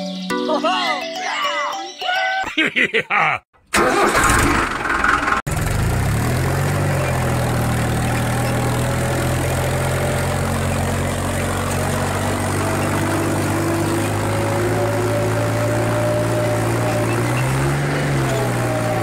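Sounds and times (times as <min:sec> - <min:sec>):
tractor engine humming: 0:03.6 - 0:19.0.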